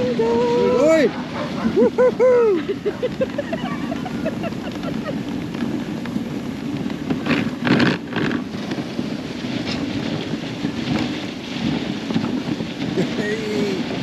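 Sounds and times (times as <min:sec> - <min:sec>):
sled runners scraping over snow: 0:00.0 - 0:14.0.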